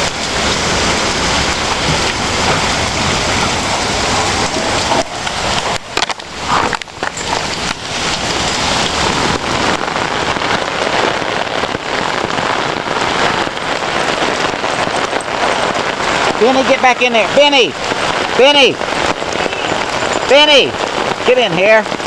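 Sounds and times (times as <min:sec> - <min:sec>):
hail and heavy rain: 0:00.0 - 0:22.0.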